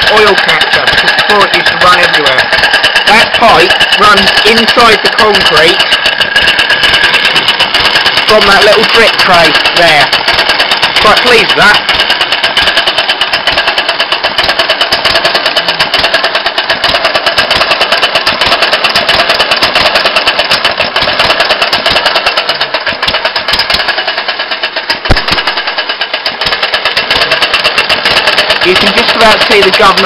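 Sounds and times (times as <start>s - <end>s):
engine bang: 0.0s - 30.0s
single-cylinder engine running: 0.0s - 30.0s.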